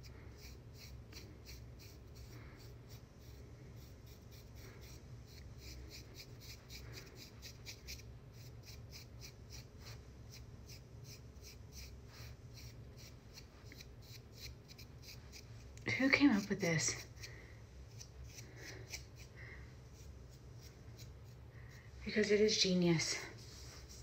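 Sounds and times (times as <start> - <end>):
razor blade scraping hair: 0.2 - 21.4.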